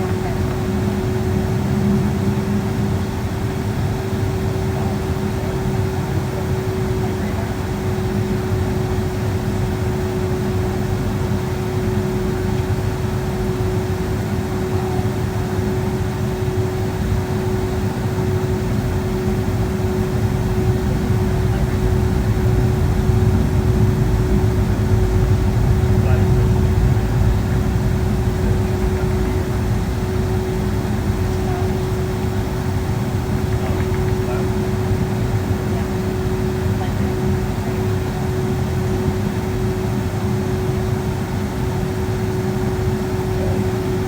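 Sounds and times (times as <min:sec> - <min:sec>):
aircraft cabin rumble: 0:00.0 - 0:44.0
constant hum: 0:00.0 - 0:44.0.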